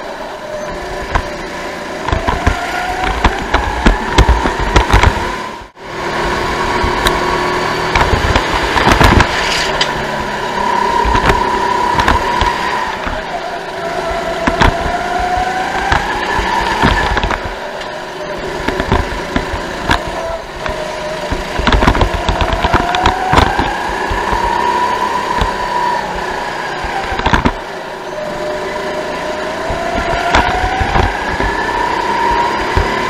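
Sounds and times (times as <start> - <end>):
go-kart engine racing: 0.0 - 33.0.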